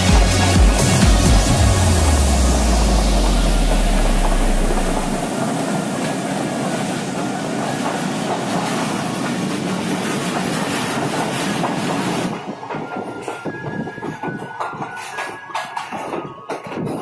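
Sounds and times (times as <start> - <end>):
train wheel and rail noise: 0.0 - 17.0
train wheels clacking: 0.0 - 17.0.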